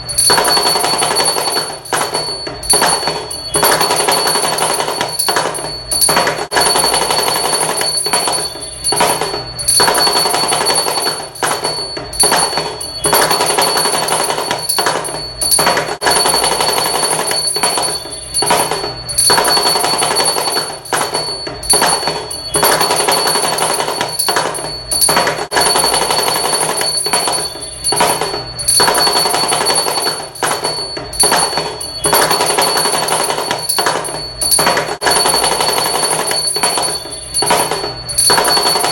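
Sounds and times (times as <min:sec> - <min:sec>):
high ringing tone: 0:00.0 - 0:38.9.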